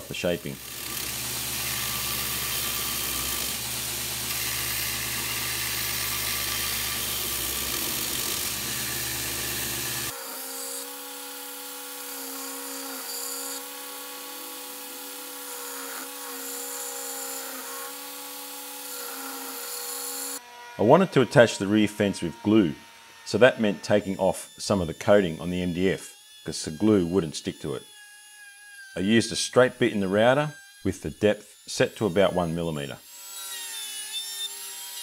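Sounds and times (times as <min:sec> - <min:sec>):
belt grinder sanding wood: 0:00.5 - 0:35.0.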